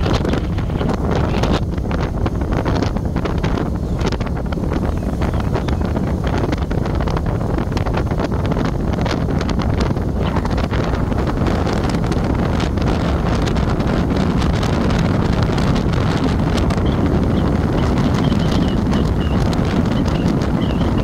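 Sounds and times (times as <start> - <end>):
road and engine rumble: 0.0 - 21.0
wind buffeting a microphone: 0.0 - 21.0.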